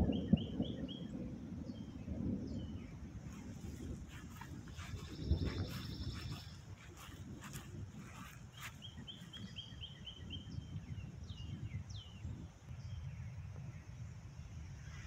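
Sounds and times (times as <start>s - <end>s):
songbird chirping: 0.0s - 13.4s.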